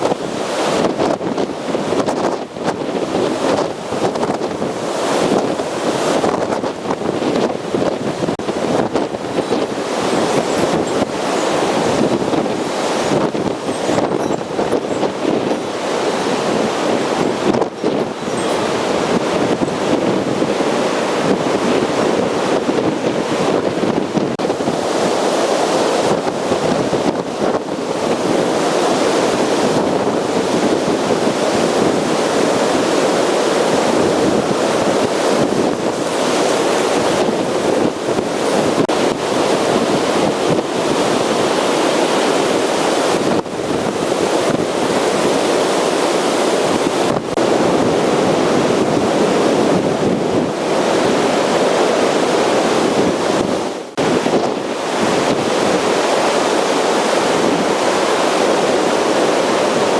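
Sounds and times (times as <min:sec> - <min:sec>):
waves breaking on shore: 0:00.0 - 0:59.9
wind buffeting microphone: 0:00.0 - 0:59.9.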